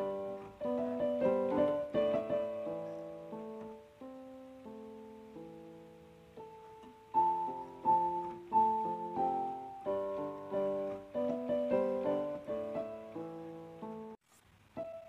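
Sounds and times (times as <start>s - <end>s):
soft piano music: 0.0s - 14.2s, 14.8s - 15.0s.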